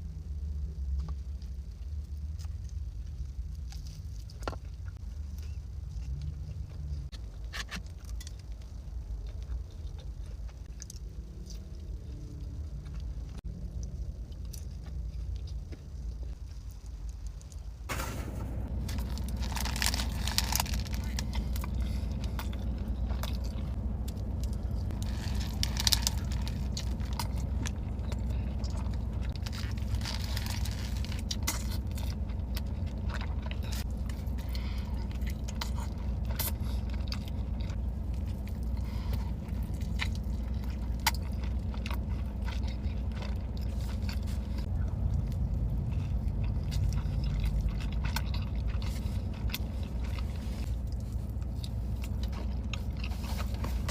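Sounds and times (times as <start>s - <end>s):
steady low hum: 0.0s - 53.9s
person eating crunchy food: 0.9s - 53.9s.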